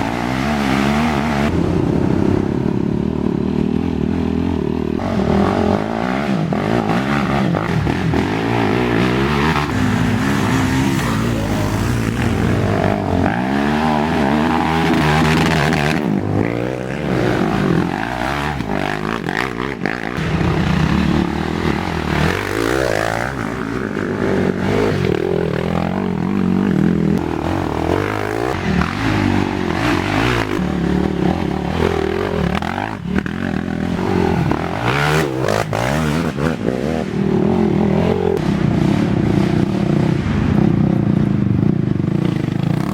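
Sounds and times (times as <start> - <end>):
racing quad engines revving: 0.0 - 42.9.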